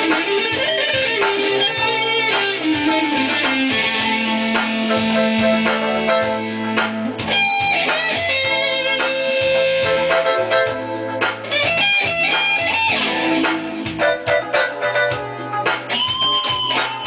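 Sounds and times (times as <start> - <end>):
moving bass line: 0.0 - 17.0
plucked guitar melody: 0.0 - 17.0.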